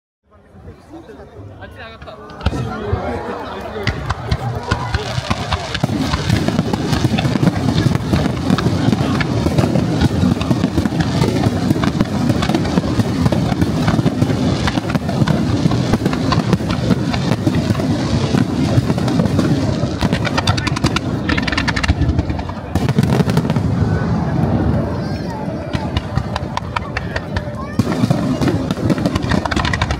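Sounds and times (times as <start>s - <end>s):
fireworks bursting: 2.0s - 29.9s
fireworks popping and crackling: 3.7s - 29.9s.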